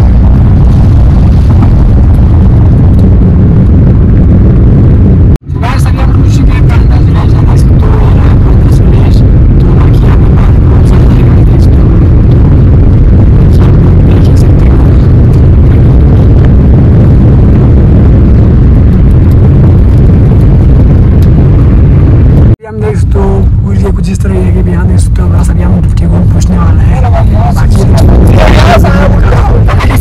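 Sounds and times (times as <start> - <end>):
moving car rumble: 0.0 - 30.0
wind noise on microphone: 0.0 - 30.0.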